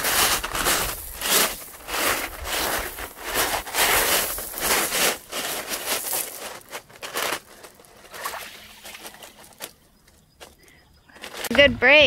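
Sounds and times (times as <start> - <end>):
footsteps crunching on gravel: 0.0 - 11.7.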